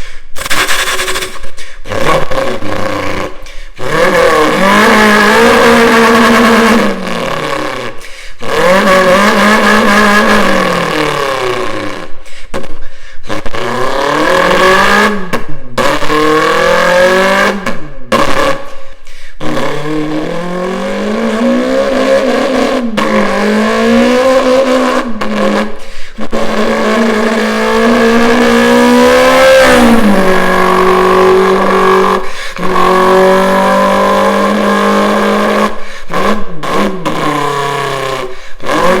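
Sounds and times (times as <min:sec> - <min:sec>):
person imitating car engine revving: 0:00.0 - 0:39.0.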